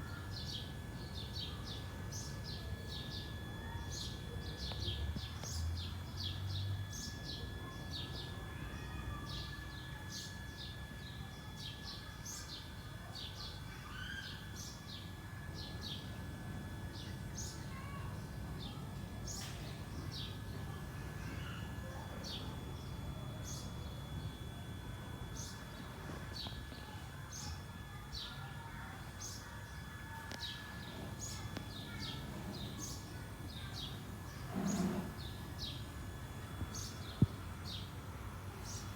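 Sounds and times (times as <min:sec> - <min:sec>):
faint steady high tone: 0:00.0 - 0:38.9
small birds chirping: 0:00.0 - 0:38.9.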